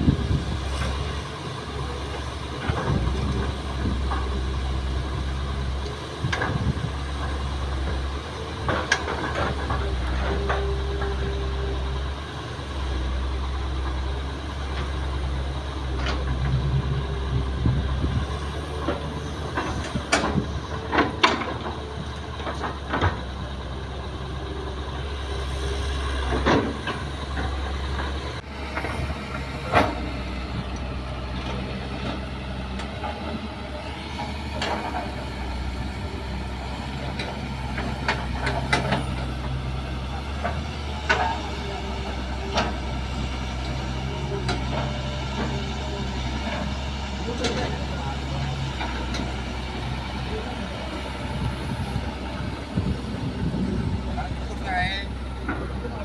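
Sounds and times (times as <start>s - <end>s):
diesel engines running: 0.0s - 56.0s
excavator knocks and clunks: 1.8s - 4.5s, 5.1s - 11.7s, 14.7s - 23.6s, 26.2s - 30.7s, 31.3s - 54.6s.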